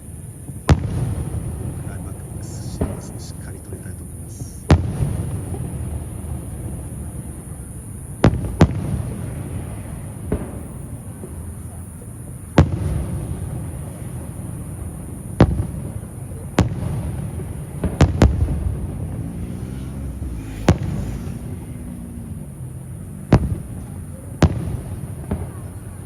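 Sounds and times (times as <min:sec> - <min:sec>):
fireworks bangs: 0:00.0 - 0:26.0
low rolling echo: 0:00.0 - 0:26.0.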